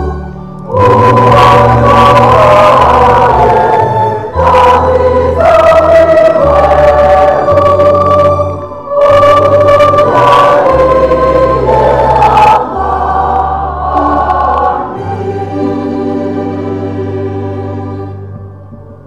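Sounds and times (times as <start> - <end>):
choir singing a hymn: 0.0 - 18.9
organ chords: 0.0 - 19.0.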